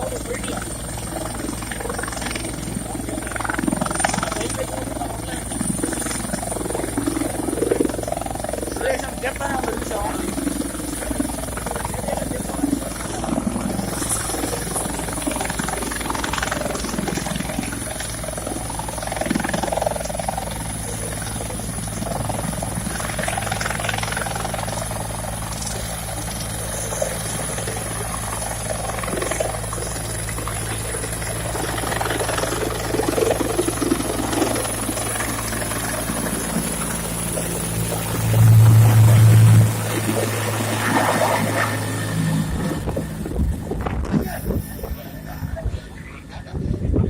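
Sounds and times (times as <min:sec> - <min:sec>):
helicopter rotor and engine drone: 0:00.0 - 0:47.0
high whine: 0:00.0 - 0:47.0.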